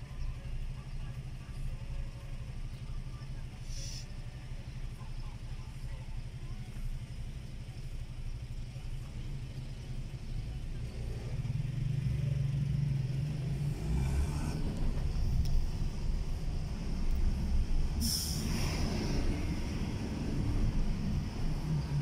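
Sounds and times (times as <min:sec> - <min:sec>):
car engine running: 0:00.0 - 0:22.0
city traffic: 0:00.0 - 0:22.0.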